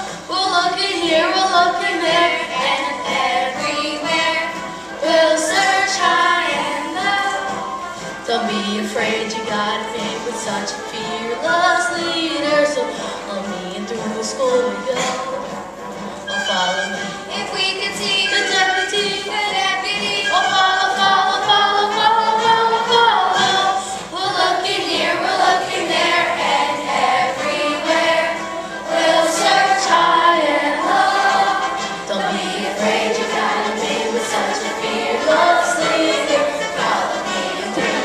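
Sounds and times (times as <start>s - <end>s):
children's chorus singing: 0.0s - 14.2s, 16.5s - 38.0s.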